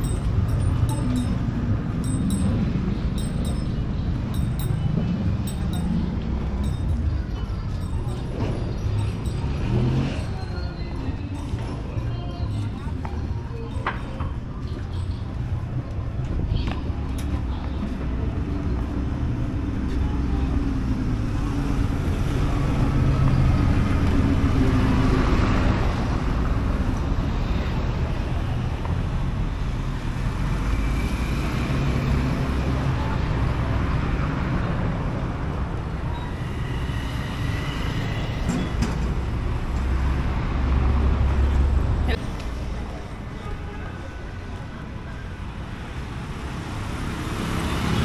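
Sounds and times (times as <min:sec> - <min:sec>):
cars and motorbikes passing: 0:00.0 - 0:48.0.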